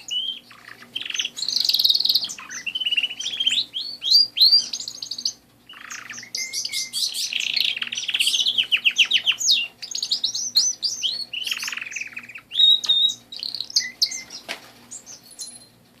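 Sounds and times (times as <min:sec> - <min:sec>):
canaries singing trills: 0:00.0 - 0:15.9.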